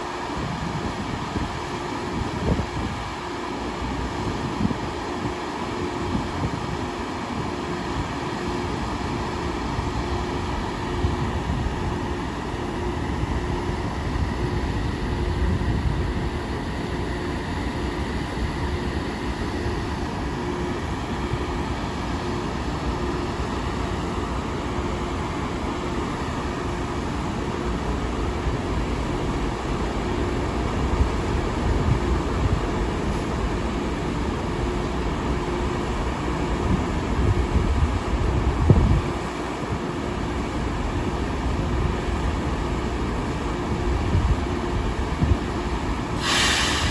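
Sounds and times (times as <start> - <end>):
train rumbling past: 0.0 - 46.9.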